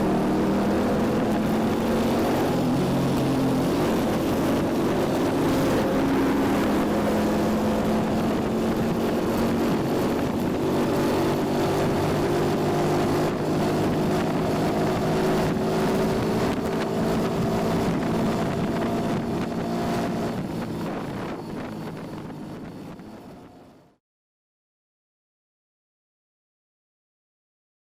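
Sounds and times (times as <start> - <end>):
motorcycle engine cruising: 0.0 - 23.9
wind on microphone: 0.0 - 23.9.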